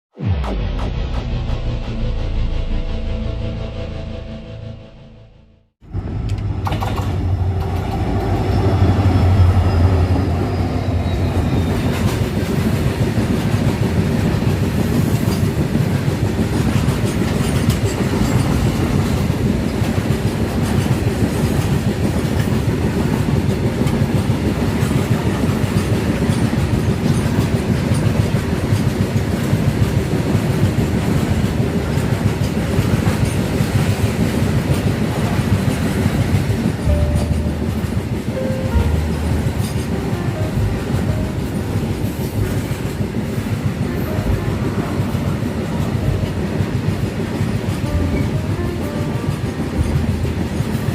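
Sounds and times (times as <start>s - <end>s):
train wheels rumbling on rails: 5.8s - 50.9s.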